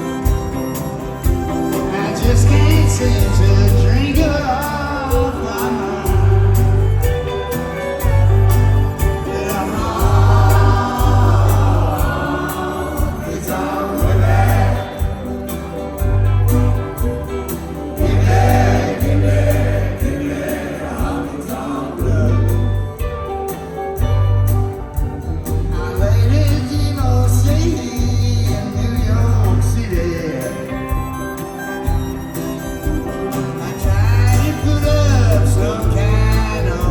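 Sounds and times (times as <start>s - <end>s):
people singing: 0.0s - 8.2s, 8.8s - 23.6s, 25.5s - 31.2s, 32.9s - 36.9s
country rock band playing: 0.0s - 36.9s
heavy bass notes: 0.0s - 36.9s.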